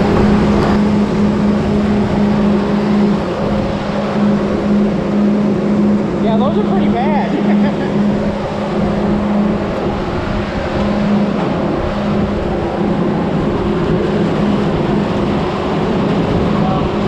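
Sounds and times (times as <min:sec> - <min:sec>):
farm machinery engine drone: 0:00.0 - 0:17.0.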